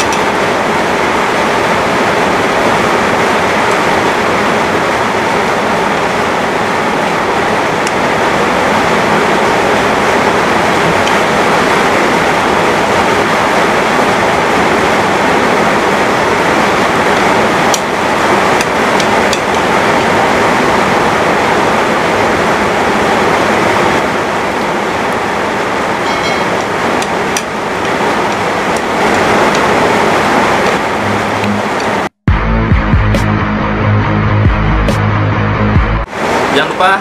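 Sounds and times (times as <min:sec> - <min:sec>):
heavy rain falling: 0:00.0 - 0:32.2, 0:36.0 - 0:37.0.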